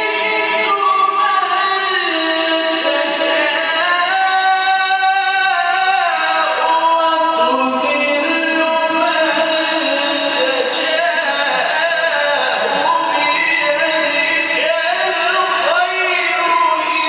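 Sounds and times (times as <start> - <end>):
person chanting a melodic recitation: 0.0 - 17.0.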